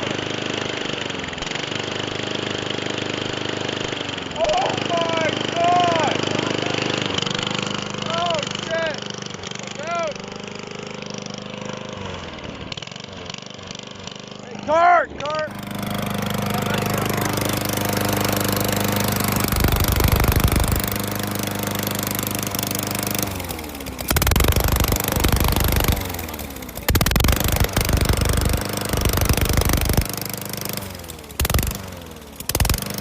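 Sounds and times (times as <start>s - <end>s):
lawn mower engine sputtering: 0.0s - 33.0s.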